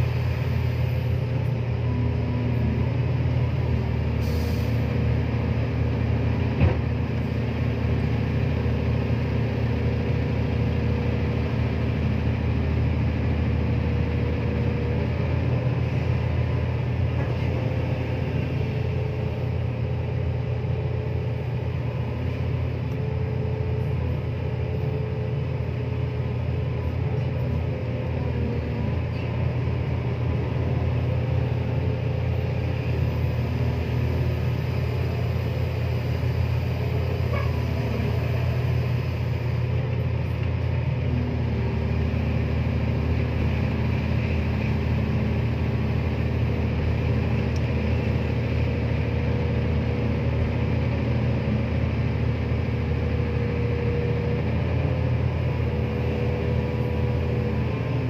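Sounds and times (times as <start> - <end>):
excavator diesel engine and hydraulics: 0.0 - 58.0.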